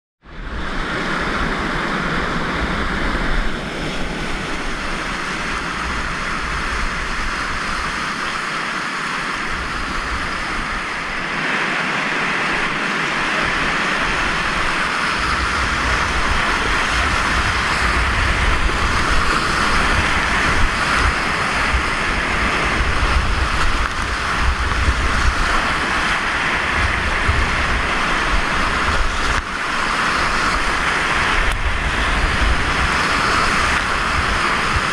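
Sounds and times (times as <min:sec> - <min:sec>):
whitewater rapids rushing: 0:00.3 - 0:34.9
wind buffeting microphone: 0:00.3 - 0:34.9.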